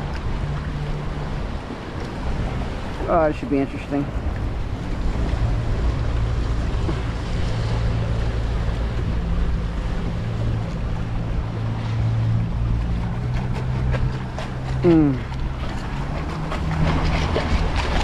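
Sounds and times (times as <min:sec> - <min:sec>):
motorboat engine drone: 0:00.0 - 0:18.0
water lapping around kayak: 0:00.0 - 0:18.0
wind buffeting microphone: 0:00.0 - 0:18.0.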